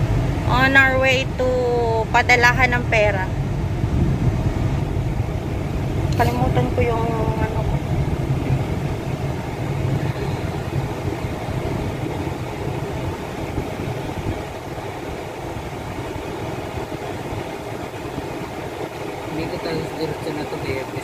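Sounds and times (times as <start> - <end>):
car engine noise from inside: 0.0 - 21.0
road noise: 0.0 - 21.0.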